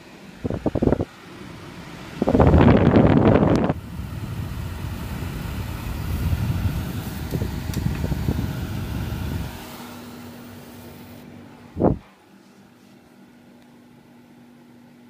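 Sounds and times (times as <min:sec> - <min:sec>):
steady low hum: 0:00.0 - 0:14.3
dehumidifier fan blowing: 0:00.0 - 0:15.0.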